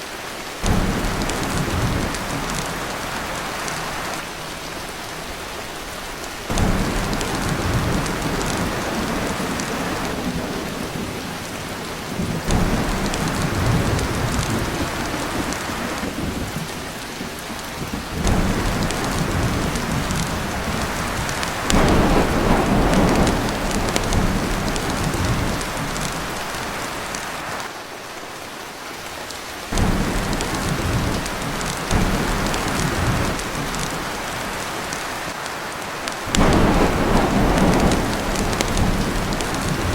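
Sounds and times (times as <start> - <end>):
heavy rain on a tin roof: 0.0 - 39.9
thunder rolling: 0.6 - 4.3, 6.5 - 27.2, 29.7 - 35.1, 36.2 - 39.9.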